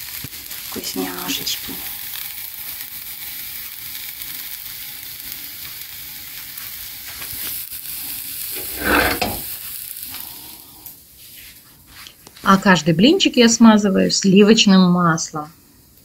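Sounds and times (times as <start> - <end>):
batter sizzling in a hot pan: 0.0 - 16.0.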